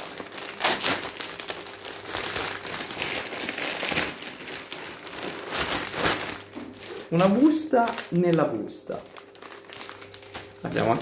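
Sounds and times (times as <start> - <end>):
plastic envelope crinkling: 0.0 - 11.0.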